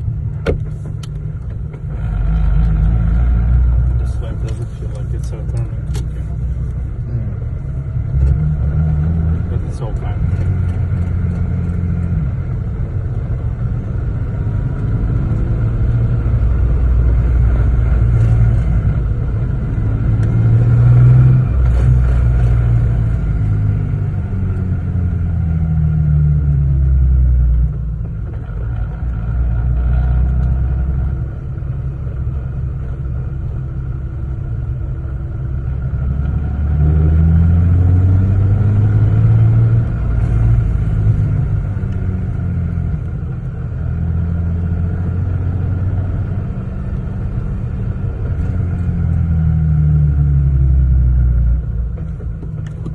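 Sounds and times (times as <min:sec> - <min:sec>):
car engine accelerating: 0:00.0 - 0:52.9.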